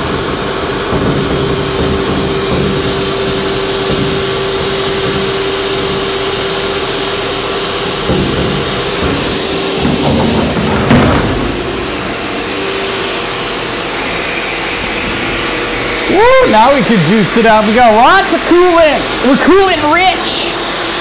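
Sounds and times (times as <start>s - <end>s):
milling machine cutting metal: 0.0s - 21.0s.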